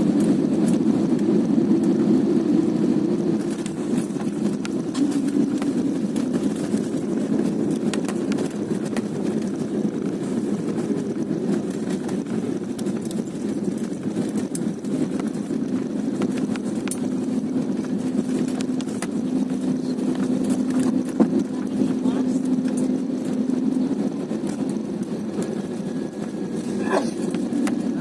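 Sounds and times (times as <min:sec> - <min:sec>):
airliner engine rumble: 0:00.0 - 0:28.0
steady hum: 0:00.0 - 0:28.0.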